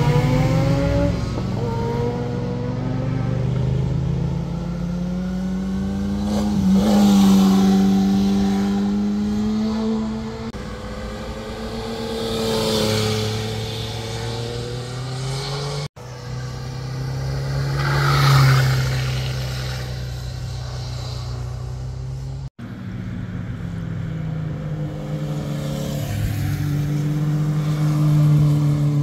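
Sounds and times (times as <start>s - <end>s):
motorcycle engines revving past: 0.0s - 22.5s, 23.5s - 29.0s.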